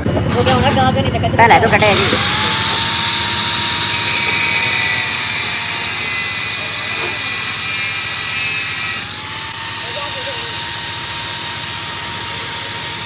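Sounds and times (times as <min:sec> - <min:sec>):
power tool hissing and whining: 0:01.8 - 0:13.0.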